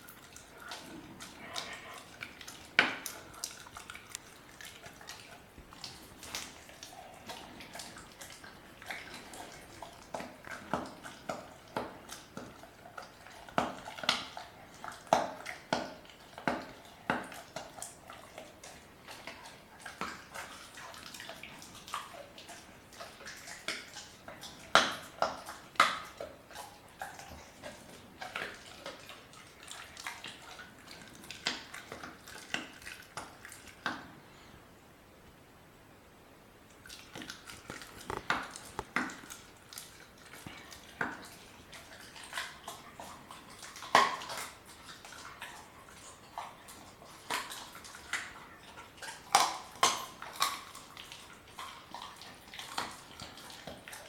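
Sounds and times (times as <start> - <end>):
puppy chewing bone: 0.0 - 34.6, 36.7 - 54.0.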